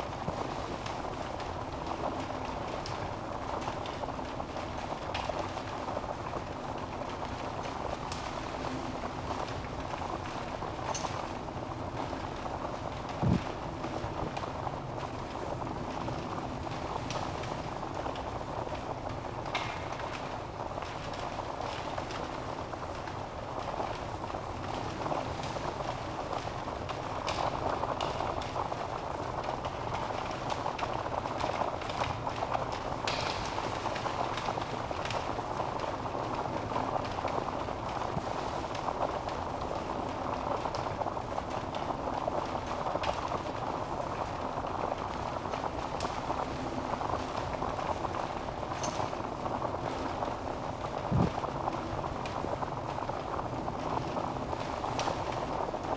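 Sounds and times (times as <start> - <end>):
burning logs crackling and popping: 0.0 - 55.9
hiss of flames: 7.9 - 55.9.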